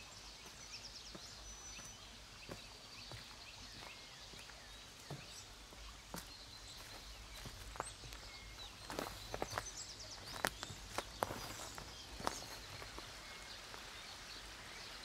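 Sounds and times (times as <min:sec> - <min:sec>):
small birds chirping: 0:00.0 - 0:15.0
footsteps crunching on dry leaves: 0:00.4 - 0:14.1.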